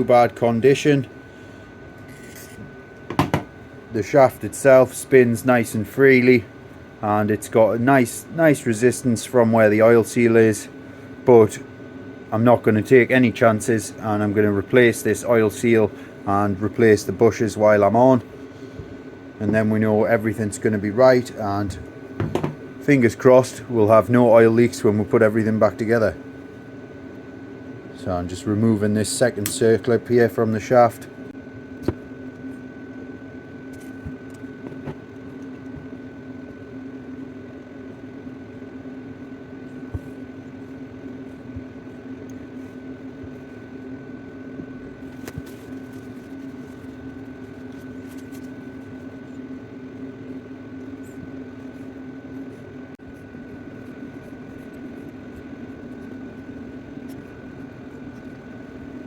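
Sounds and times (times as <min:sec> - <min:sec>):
workshop hum: 0:00.0 - 0:59.0.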